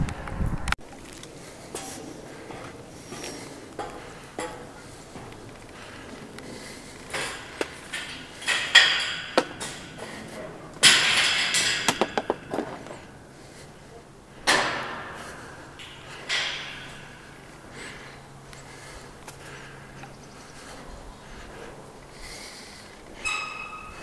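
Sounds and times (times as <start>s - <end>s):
footsteps on metal grating: 0.0s - 24.0s.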